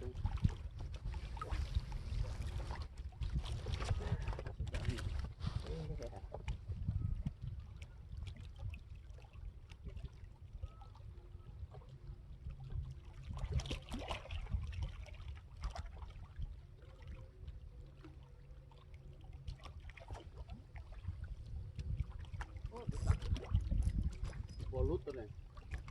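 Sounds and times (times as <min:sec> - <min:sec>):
wind rumble on microphone: 0:00.0 - 0:17.7, 0:19.8 - 0:25.9
water sloshing and splashing: 0:00.0 - 0:25.9.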